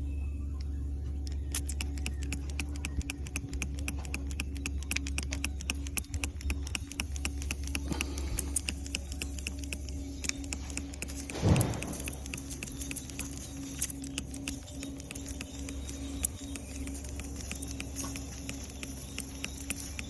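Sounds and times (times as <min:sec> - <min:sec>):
leak detector ticking rapidly: 0:00.0 - 0:20.0
steady low hum: 0:00.0 - 0:20.0.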